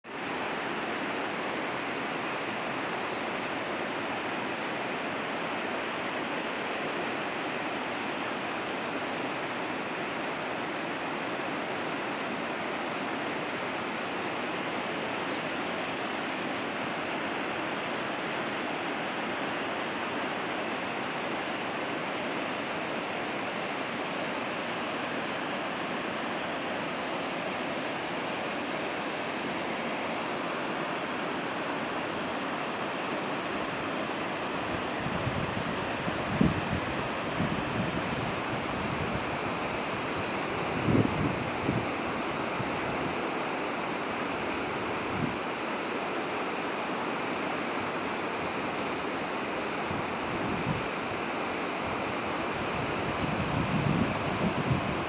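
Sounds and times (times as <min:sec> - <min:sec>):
river water rushing: 0:00.1 - 0:55.0.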